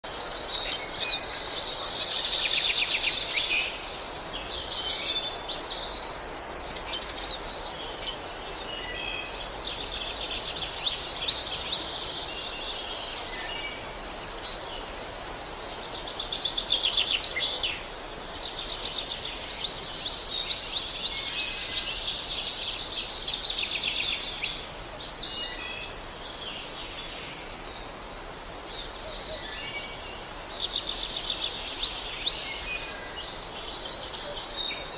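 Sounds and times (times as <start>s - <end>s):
small birds chirping and singing: 0.0s - 34.9s
steady background hiss: 0.1s - 34.9s.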